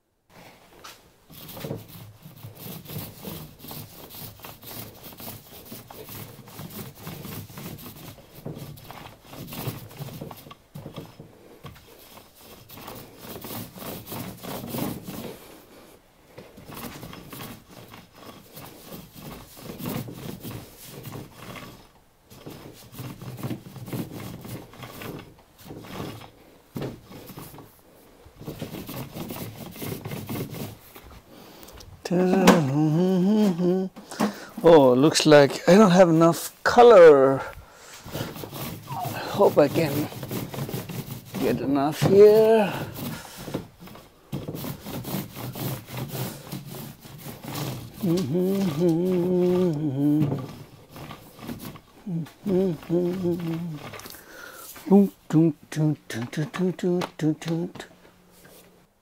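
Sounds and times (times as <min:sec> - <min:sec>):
paint roller rasping on paper: 0:01.3 - 0:58.8.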